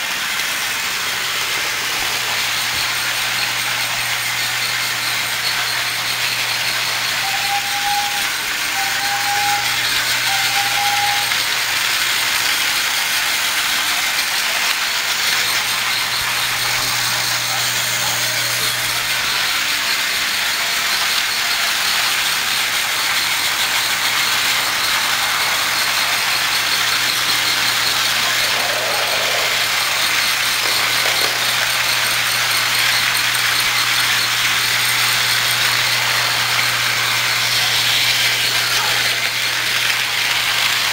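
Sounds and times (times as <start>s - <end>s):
toy train motors whirring: 0.0s - 40.9s
wheels rattling on plastic track: 0.0s - 40.9s.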